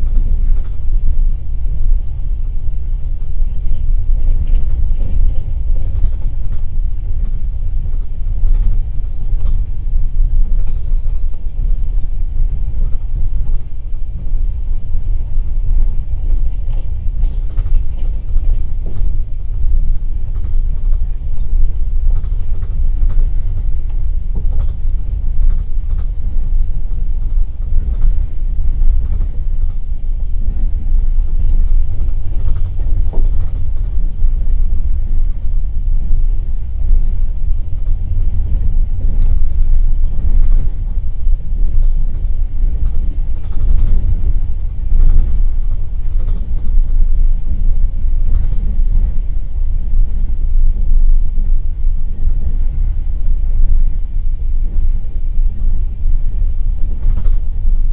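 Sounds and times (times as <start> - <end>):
train wheels rumbling on track: 0.0 - 57.9.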